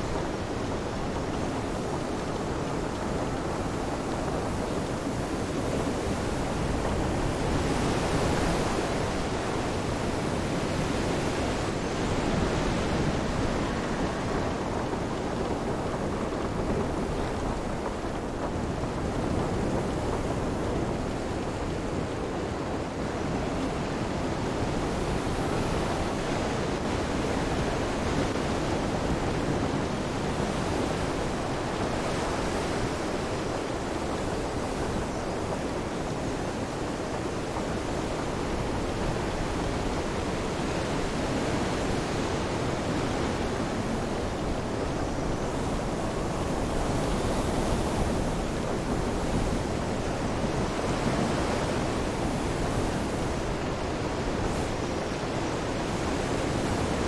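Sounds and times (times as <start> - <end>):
rain: 0.0 - 57.0
surf washing in: 0.0 - 57.0
wind: 0.0 - 57.0.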